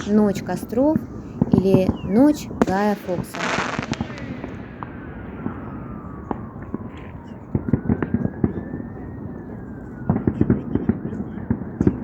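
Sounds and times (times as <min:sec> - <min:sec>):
distant fireworks popping: 0:00.0 - 0:12.0.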